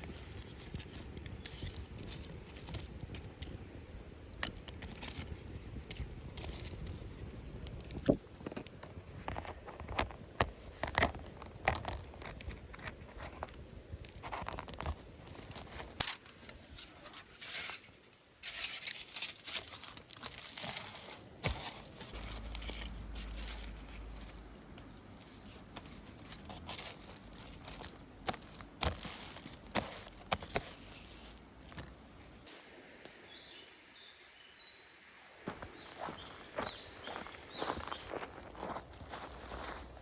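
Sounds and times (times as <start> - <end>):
rustling and crinkling: 0.0 - 32.4, 35.5 - 40.0.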